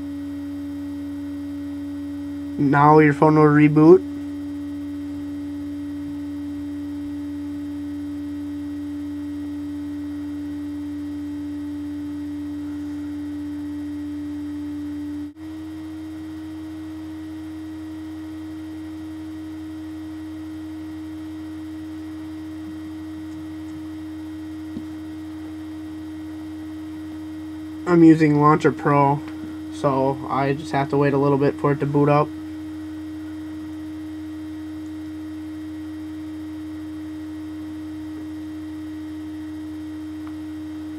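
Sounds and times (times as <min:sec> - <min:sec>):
electrical hum: 0:00.0 - 0:40.9
pure tone: 0:00.0 - 0:40.9.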